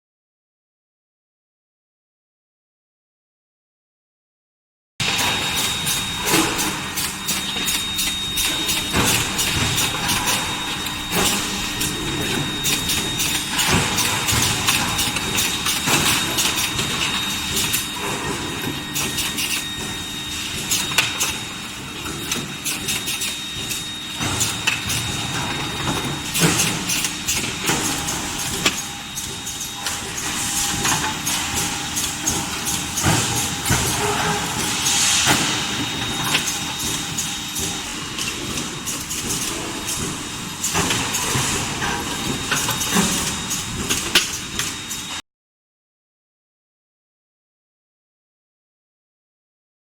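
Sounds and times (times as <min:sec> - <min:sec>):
steady machine noise: 0:05.0 - 0:45.2.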